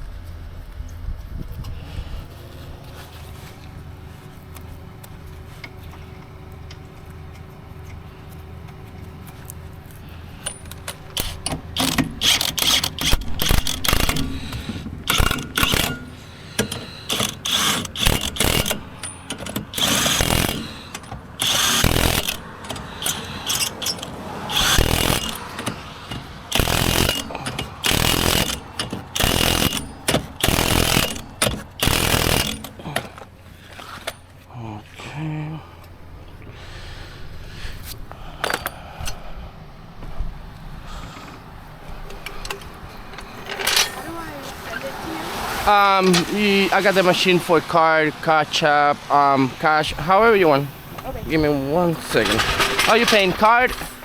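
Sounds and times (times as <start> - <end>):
low steady hum: 0.0 - 54.0
impact wrench rattling bursts: 4.5 - 34.5, 35.8 - 39.2, 39.8 - 54.0.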